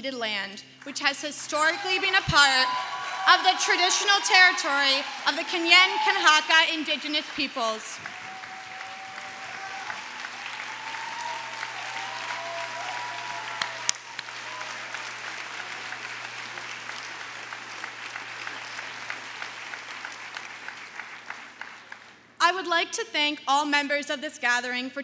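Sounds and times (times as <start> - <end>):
audience applauding: 0.8 - 22.3.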